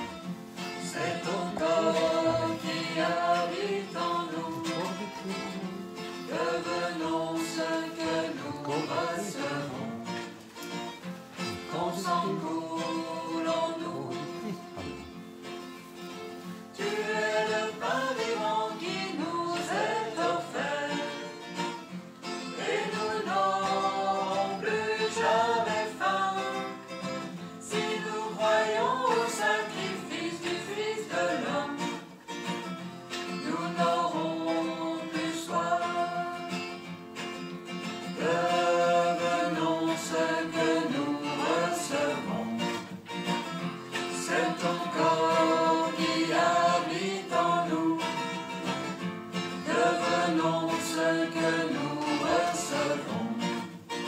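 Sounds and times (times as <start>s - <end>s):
voices singing a hymn: 0.0s - 10.4s, 11.3s - 15.3s, 16.4s - 54.0s
acoustic guitar: 0.0s - 54.0s.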